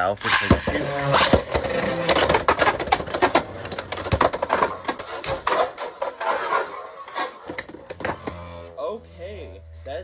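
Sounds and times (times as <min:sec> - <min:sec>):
tops scraping and rattling: 0:00.0 - 0:09.8.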